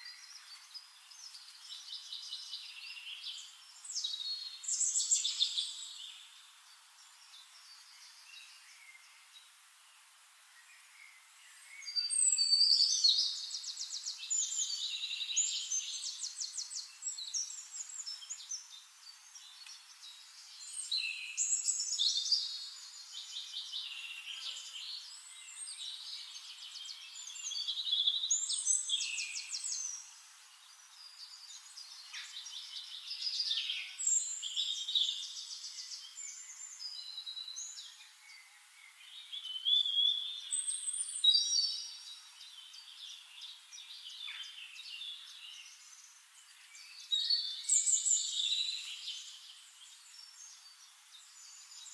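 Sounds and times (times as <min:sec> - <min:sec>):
songbird trilling and chirping: 0:00.0 - 0:09.2, 0:11.0 - 0:51.9.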